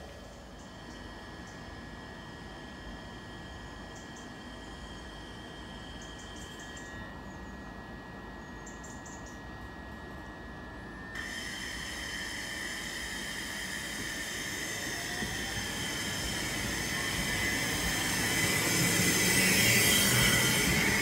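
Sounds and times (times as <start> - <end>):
train traction motor whine: 0.0 - 21.0
high electrical whine: 0.7 - 21.0.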